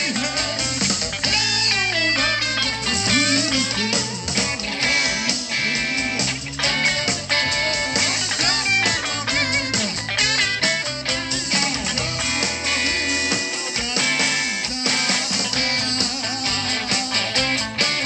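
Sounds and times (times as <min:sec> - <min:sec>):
drums: 0:00.0 - 0:18.0
electric bass: 0:00.0 - 0:18.0
electric guitar bending notes: 0:00.0 - 0:18.0.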